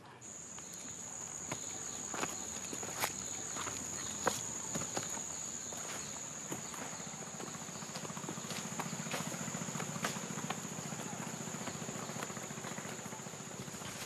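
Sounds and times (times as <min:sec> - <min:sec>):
insects chirring: 0:00.2 - 0:14.0
low rapidly pulsing buzz: 0:00.2 - 0:14.0.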